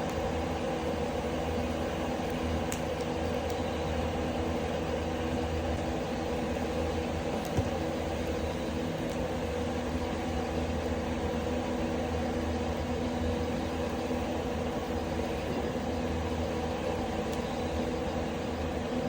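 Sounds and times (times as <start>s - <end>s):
ventilation fan droning: 0.0s - 19.0s.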